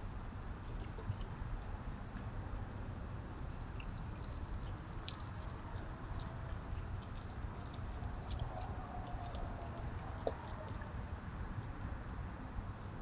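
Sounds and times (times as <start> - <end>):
low background rumble: 0.0 - 13.0
night insects trilling: 0.0 - 13.0.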